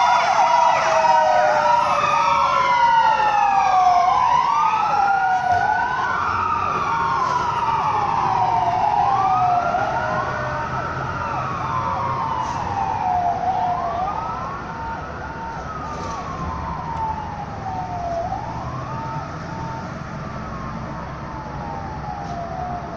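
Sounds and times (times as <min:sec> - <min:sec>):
electronic siren wailing: 0:00.0 - 0:22.9
low traffic rumble: 0:00.0 - 0:22.9.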